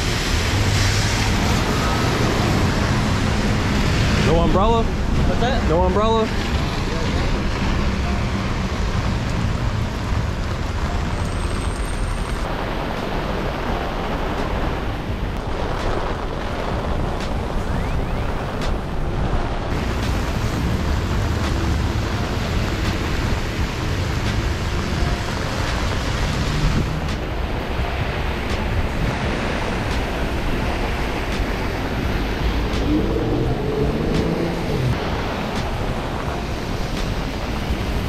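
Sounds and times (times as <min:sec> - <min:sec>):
heavy rain on an umbrella: 0:00.0 - 0:38.0
traffic rumble on wet road: 0:00.0 - 0:38.0.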